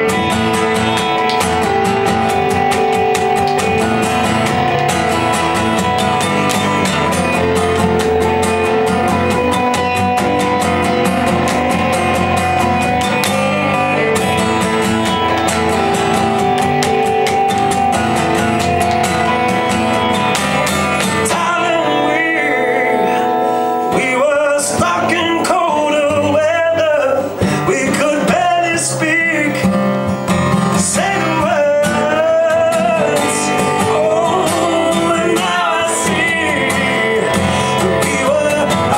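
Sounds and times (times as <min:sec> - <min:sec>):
person singing: 0:00.0 - 0:29.8, 0:30.6 - 0:38.9
strummed guitar: 0:00.0 - 0:38.9.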